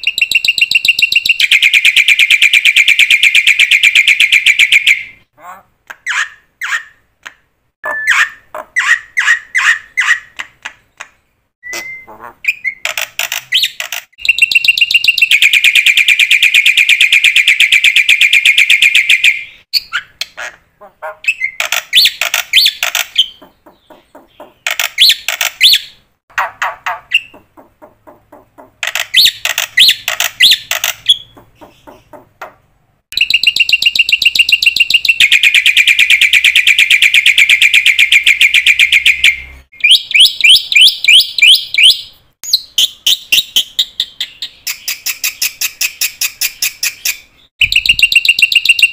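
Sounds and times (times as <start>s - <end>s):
bird singing in rapid trills: 0.0s - 5.2s, 11.6s - 20.2s, 21.3s - 32.3s, 33.1s - 48.9s.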